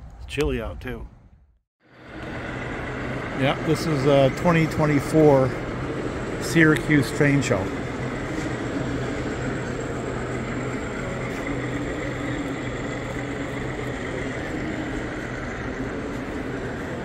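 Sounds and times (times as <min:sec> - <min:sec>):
mechanical drone with low hum: 0:00.0 - 0:17.0.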